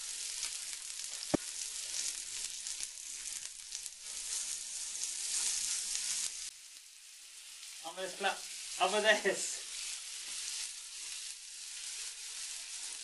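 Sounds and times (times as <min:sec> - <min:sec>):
meat sizzling on griddle pan: 0:00.0 - 0:13.0.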